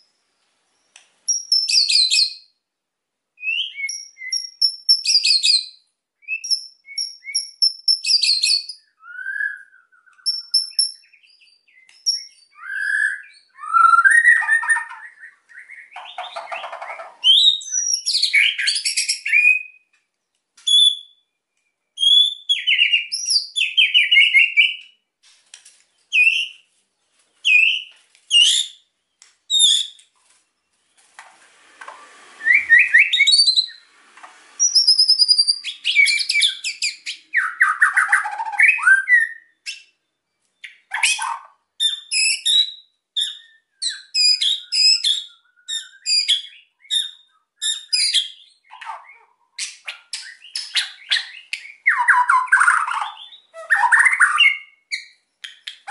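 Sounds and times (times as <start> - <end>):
songbird singing whistled phrases: 0.8 - 2.6, 3.4 - 19.9, 20.6 - 25.0, 26.1 - 26.6, 27.4 - 28.9, 29.5 - 30.0, 32.4 - 33.9, 34.6 - 40.0, 40.6 - 55.9.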